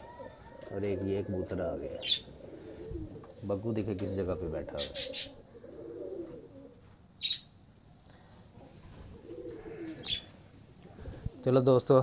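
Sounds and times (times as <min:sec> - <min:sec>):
pigeons cooing: 0:00.0 - 0:07.4, 0:08.5 - 0:11.8.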